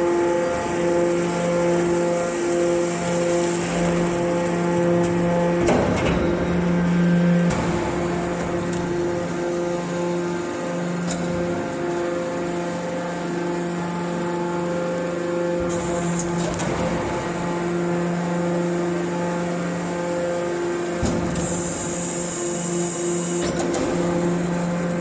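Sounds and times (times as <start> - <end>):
hydraulic power unit humming: 0.0 - 25.0.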